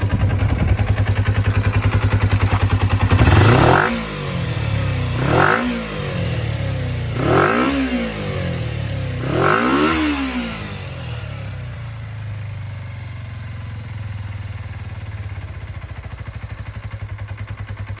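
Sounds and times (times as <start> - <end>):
motorcycle engine revving and idling: 0.0 - 18.0.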